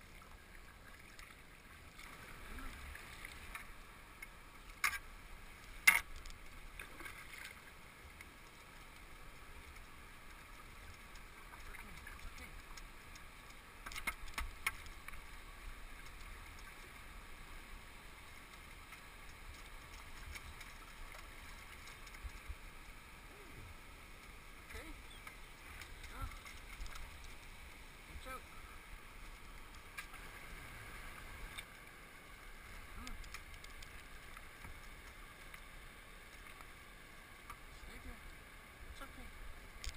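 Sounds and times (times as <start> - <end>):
faint rushing water: 0.0 - 39.9.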